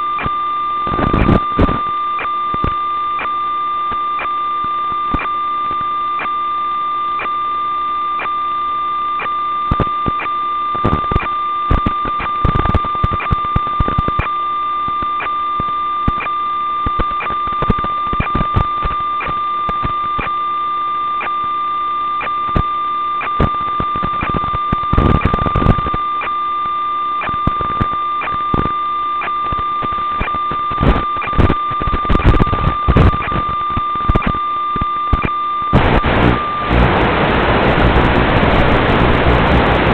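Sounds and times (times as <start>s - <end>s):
steady electronic tone: 0.0s - 14.4s, 21.1s - 39.9s
radio static crackle: 0.0s - 39.9s.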